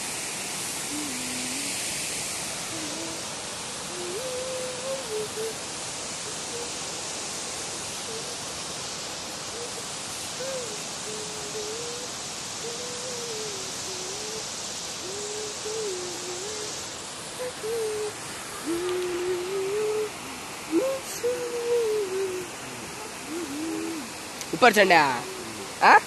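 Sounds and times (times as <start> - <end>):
thin wavering tone: 0.8 - 7.0, 9.5 - 25.8.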